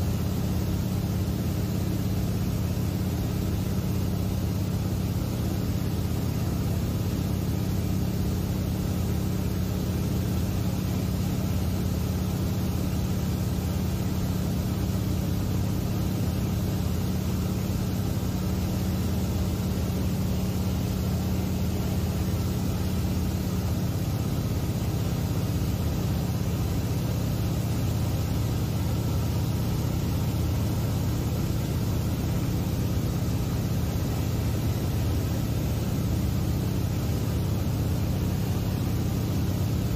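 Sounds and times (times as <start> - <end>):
plane engine and propeller drone: 0.0 - 39.9.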